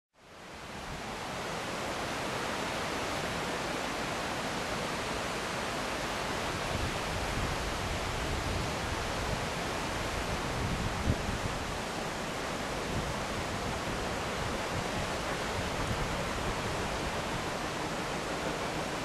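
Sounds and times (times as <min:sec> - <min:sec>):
river rushing over rapids: 0:00.2 - 0:19.0.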